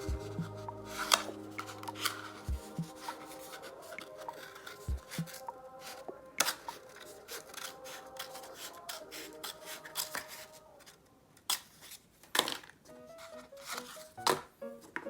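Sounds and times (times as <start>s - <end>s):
scraping and rubbing strokes: 0.0s - 12.1s, 13.2s - 14.2s.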